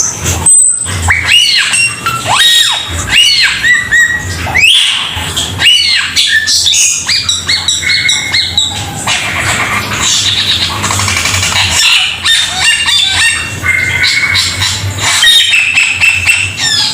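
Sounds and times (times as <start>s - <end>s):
bird chattering calls: 0.0s - 16.9s.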